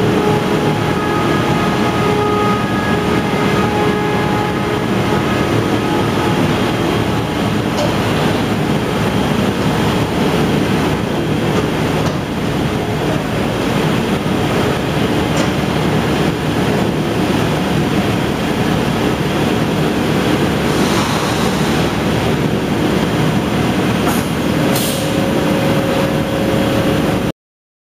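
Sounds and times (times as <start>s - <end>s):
loud industrial machinery din: 0.0s - 27.3s.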